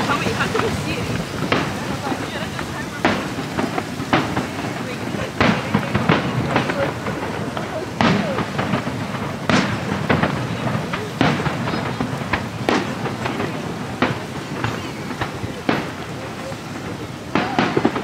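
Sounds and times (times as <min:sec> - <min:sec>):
fireworks booms: 0:00.0 - 0:18.0
small fireworks pops: 0:00.0 - 0:18.0.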